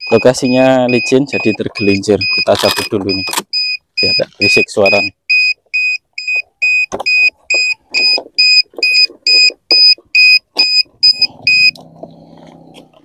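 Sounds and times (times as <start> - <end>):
high battery alarm beeping: 0.0 - 11.8.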